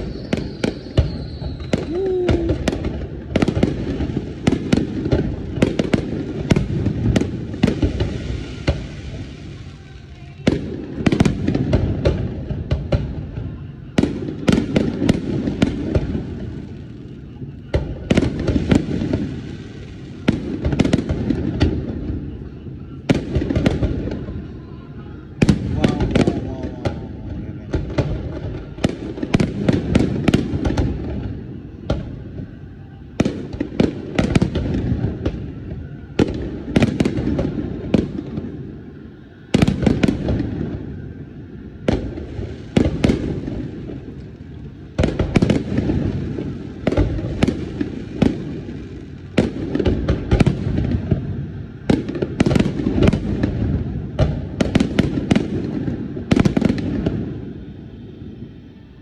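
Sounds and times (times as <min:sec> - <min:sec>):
fireworks bursting with sharp bangs: 0:00.0 - 0:59.0.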